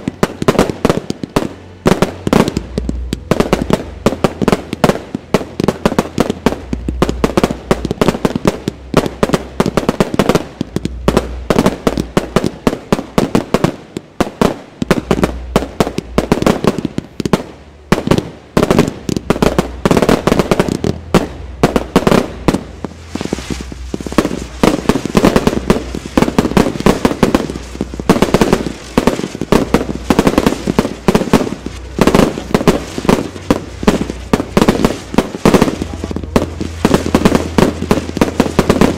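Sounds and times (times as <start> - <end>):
fireworks barrage of bangs: 0.0 - 38.9.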